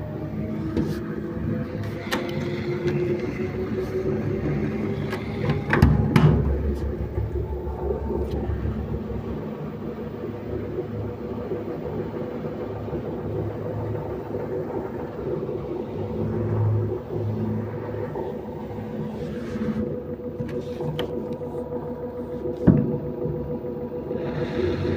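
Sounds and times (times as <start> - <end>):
low pulsing rumble: 0.0 - 24.9.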